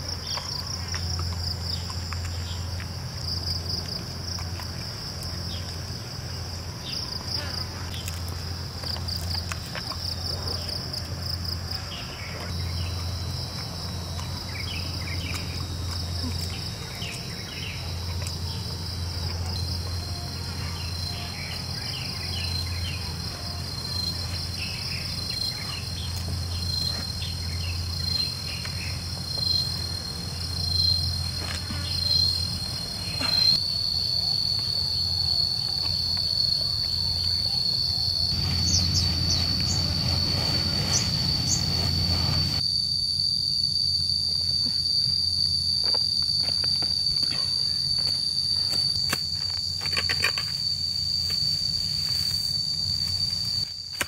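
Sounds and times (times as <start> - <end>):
insects chorus pulsing: 0.0 - 54.0
thin steady whine: 0.0 - 54.0.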